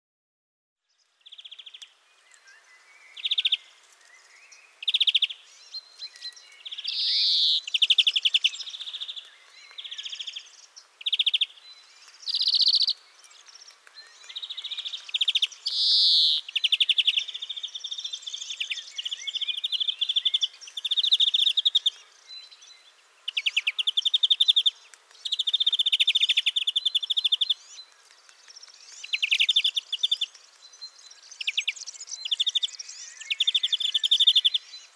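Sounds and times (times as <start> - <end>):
greenfinch singing trilled phrases: 1.3 - 3.8, 4.5 - 34.9.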